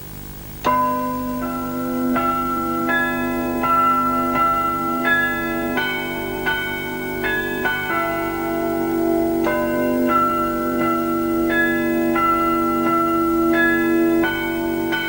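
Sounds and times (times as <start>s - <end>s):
bell-like chimes melody: 0.6s - 15.0s.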